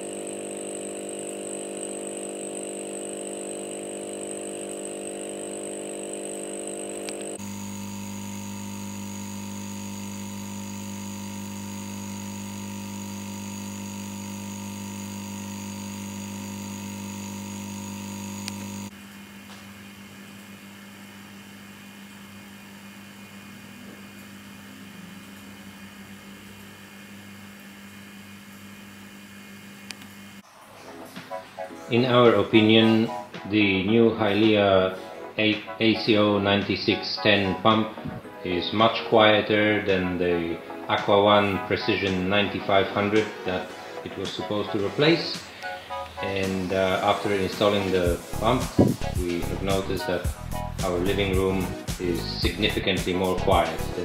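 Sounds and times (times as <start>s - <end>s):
aquarium air pump humming: 0.0s - 30.8s, 37.2s - 54.0s.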